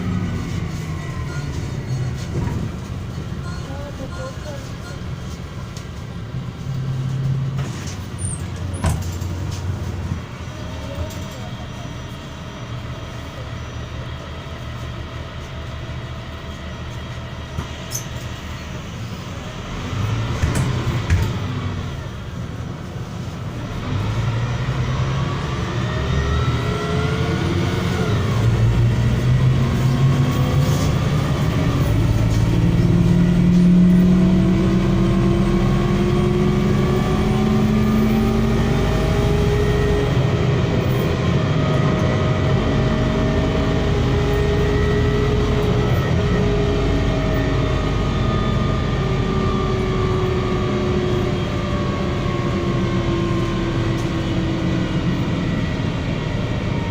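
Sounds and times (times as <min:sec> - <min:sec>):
bus engine whine: 0:00.0 - 0:56.9.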